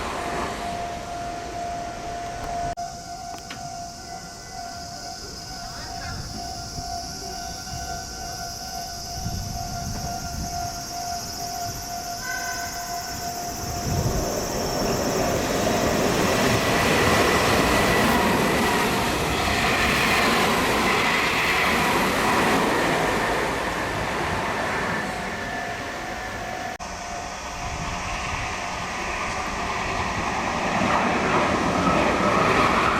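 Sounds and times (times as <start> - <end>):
electric train rushing past: 0.0 - 32.9.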